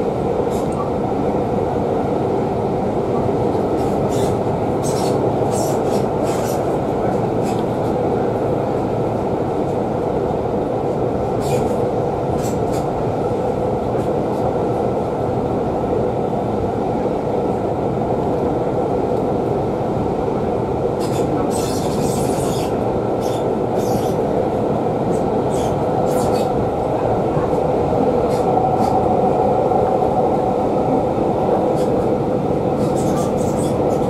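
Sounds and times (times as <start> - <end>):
train carriage rumble: 0.0 - 34.0.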